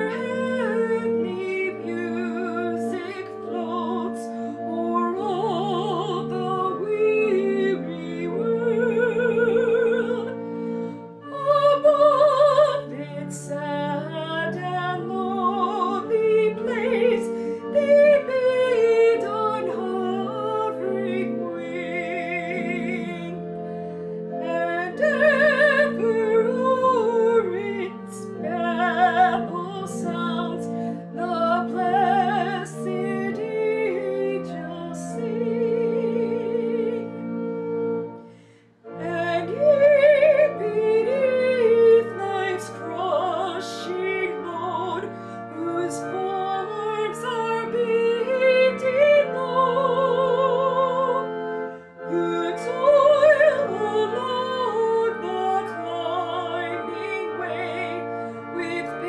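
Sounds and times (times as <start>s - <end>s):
woman singing with vibrato: 0.0s - 10.6s, 11.2s - 23.4s, 24.4s - 37.3s, 39.0s - 51.4s, 52.1s - 59.0s.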